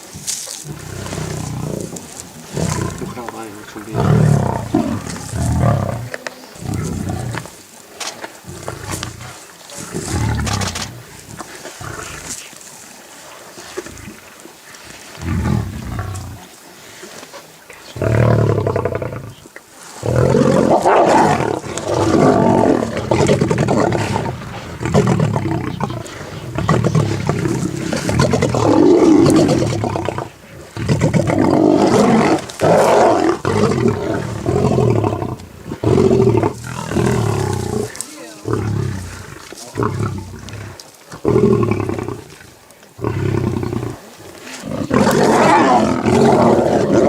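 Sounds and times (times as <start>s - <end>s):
lions roaring: 0.6s - 12.4s, 15.1s - 16.5s, 17.9s - 19.4s, 20.0s - 47.0s.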